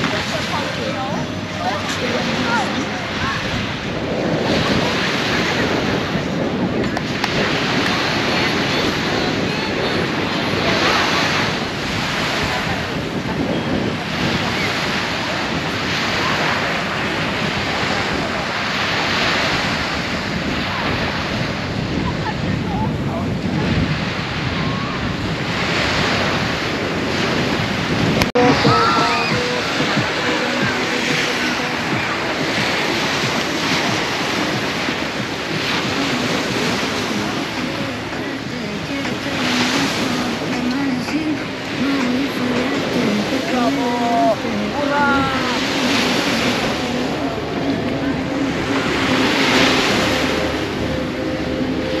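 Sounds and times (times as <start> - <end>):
small waves washing onto sand: 0.0 - 52.0
wind on microphone: 0.0 - 52.0.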